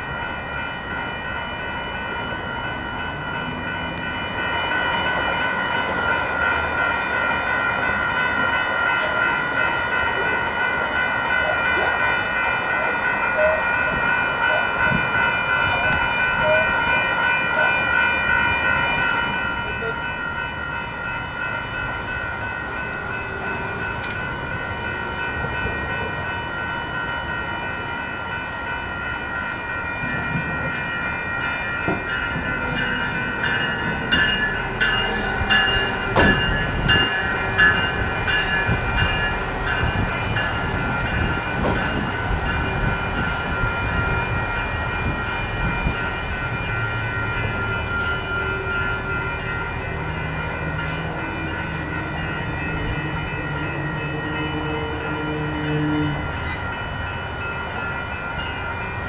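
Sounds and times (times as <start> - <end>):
railroad crossing bell ringing: 0.0 - 59.0
train wheels clacking on rails: 2.7 - 54.7.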